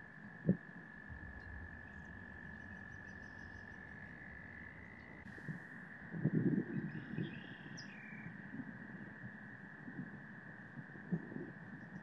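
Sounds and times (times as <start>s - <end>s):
frogs trilling: 0.0s - 12.0s
low frog croaks: 0.0s - 12.0s.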